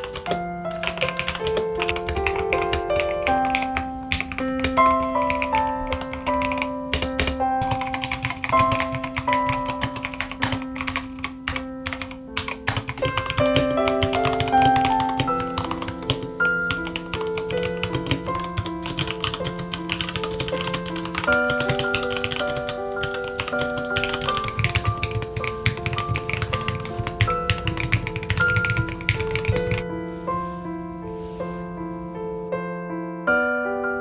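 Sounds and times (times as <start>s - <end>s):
typing on mechanical keyboard: 0.0s - 29.9s.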